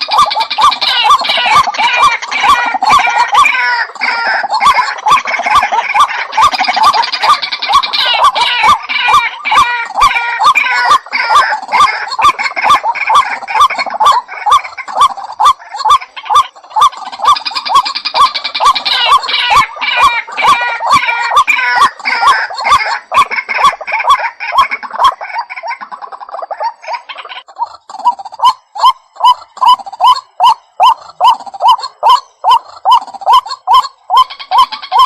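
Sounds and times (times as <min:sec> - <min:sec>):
waterhen harsh croaking call: 0:00.0 - 0:35.0.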